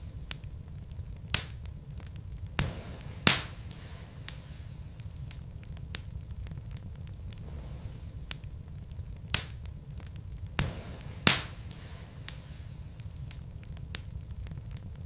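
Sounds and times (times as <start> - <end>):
fire rumbling: 0.0 - 15.0
wood crackles and pops: 0.0 - 15.0.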